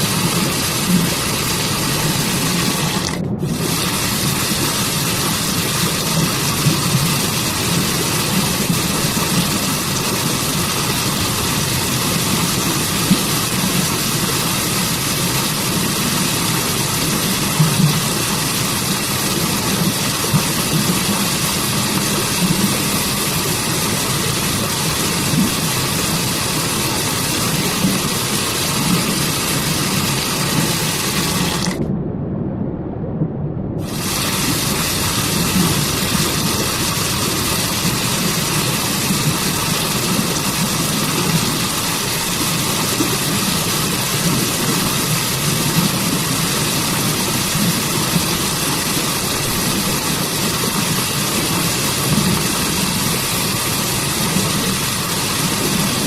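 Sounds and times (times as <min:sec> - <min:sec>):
waterfall and stream rushing: 0:00.0 - 0:31.8, 0:33.8 - 0:56.0.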